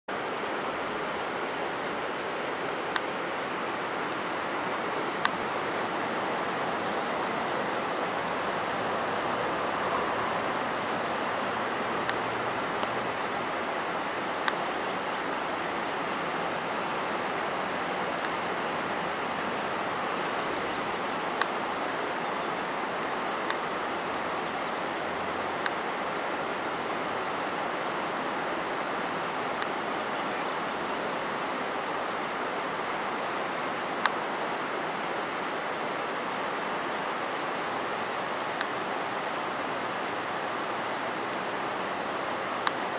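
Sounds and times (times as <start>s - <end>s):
river water over gravel: 0.1s - 42.9s.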